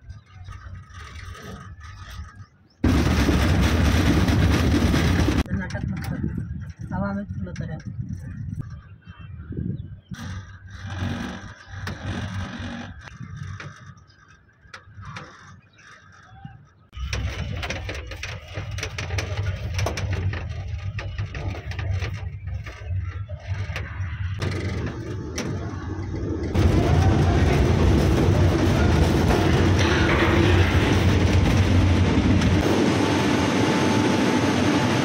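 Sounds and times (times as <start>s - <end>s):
ropeway machinery rumbling: 0.0s - 35.0s.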